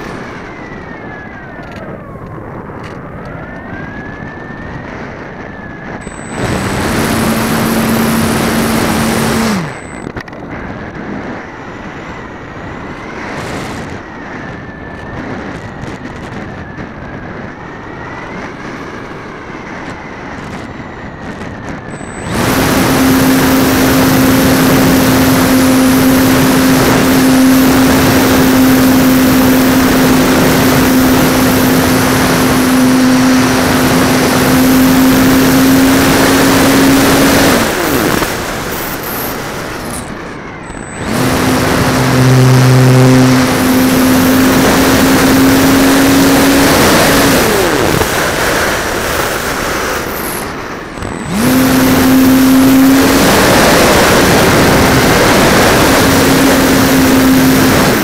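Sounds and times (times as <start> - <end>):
wind rush: 0.0 - 58.0
model airplane motor: 5.5 - 16.8, 17.4 - 58.0.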